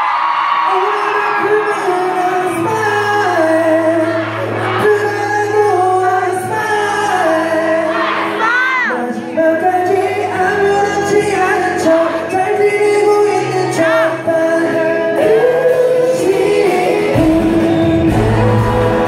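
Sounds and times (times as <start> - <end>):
live pop-rock band: 0.0 - 19.0
person singing lead vocal: 0.2 - 19.0.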